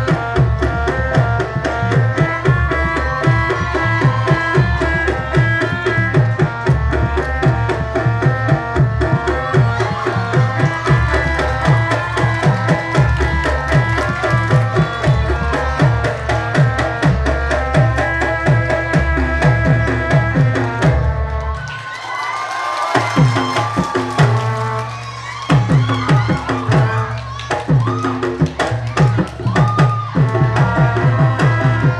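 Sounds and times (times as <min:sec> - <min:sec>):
hand drums beating fast: 0:00.0 - 0:21.6, 0:22.9 - 0:31.9.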